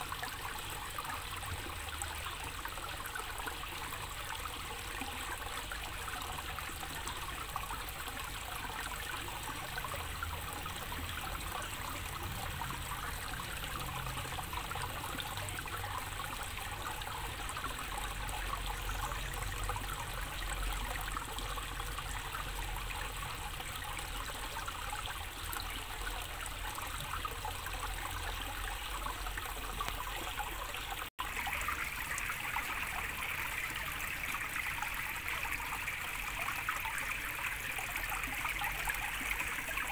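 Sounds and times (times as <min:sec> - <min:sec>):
water trickling into pond: 0:00.0 - 0:39.9
water dripping onto pond: 0:00.1 - 0:39.9.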